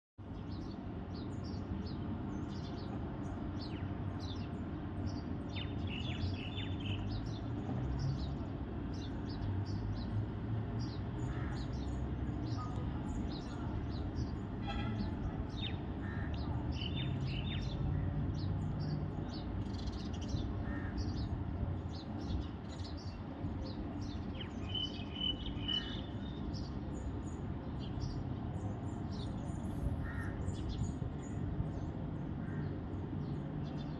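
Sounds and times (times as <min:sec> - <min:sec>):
small birds chirping: 0:00.3 - 0:33.9.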